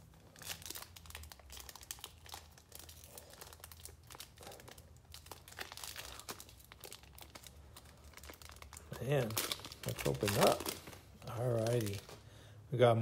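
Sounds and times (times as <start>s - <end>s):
wrapper crinkling: 0.0s - 12.4s.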